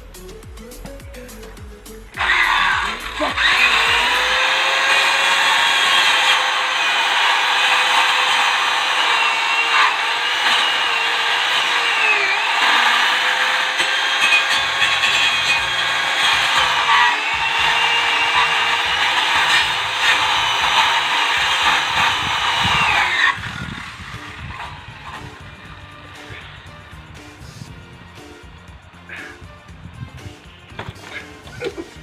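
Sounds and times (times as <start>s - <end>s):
power saw cutting wood: 2.1s - 32.0s.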